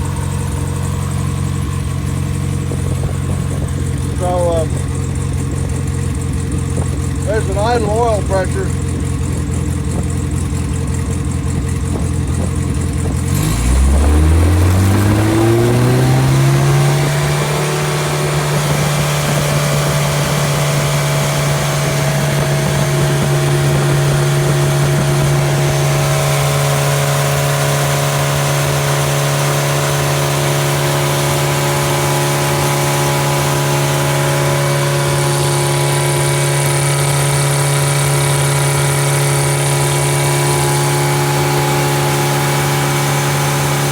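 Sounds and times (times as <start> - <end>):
engine revving without muffler: 0.0 - 43.9.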